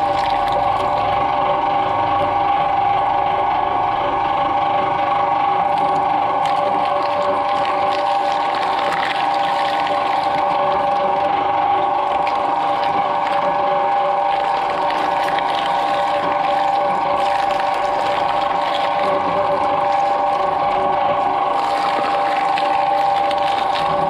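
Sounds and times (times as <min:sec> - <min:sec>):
wet crunching of fruit: 0:00.0 - 0:01.0, 0:05.6 - 0:24.0
shredder motor whine: 0:00.0 - 0:24.0.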